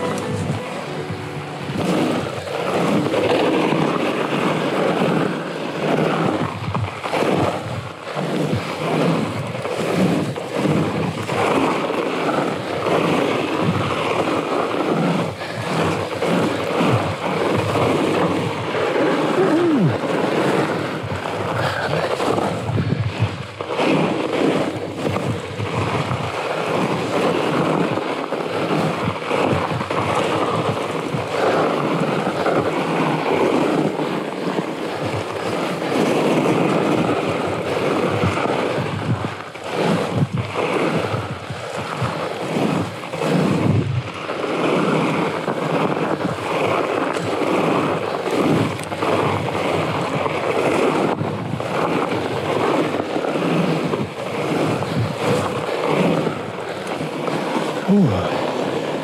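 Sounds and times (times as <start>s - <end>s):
bike tyres rolling on snow: 0.0s - 59.0s
wind buffeting microphone: 0.0s - 59.0s.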